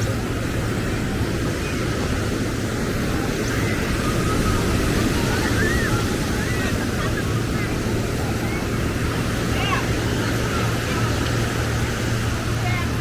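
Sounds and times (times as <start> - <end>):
ocean surf roaring: 0.0 - 13.0
wind buffeting microphone: 0.0 - 13.0.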